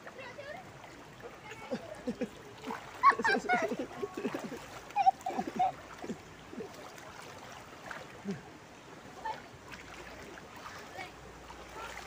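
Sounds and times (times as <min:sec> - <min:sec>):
river water splashing around legs: 0:00.0 - 0:12.0.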